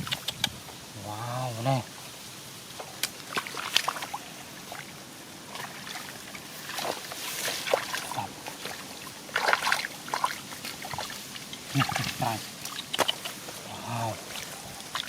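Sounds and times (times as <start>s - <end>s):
shallow water splashing and sloshing: 1.8s - 15.0s.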